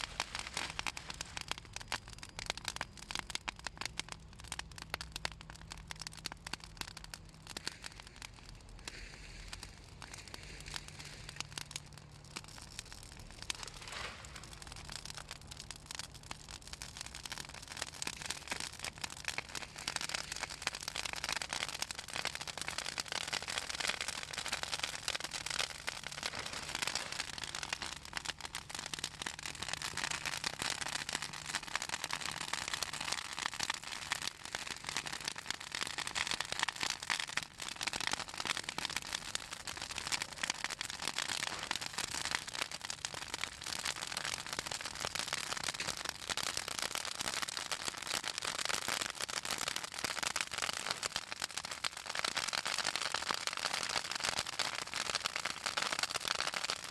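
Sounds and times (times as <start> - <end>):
bonfire crackling and popping: 0.0 - 56.9.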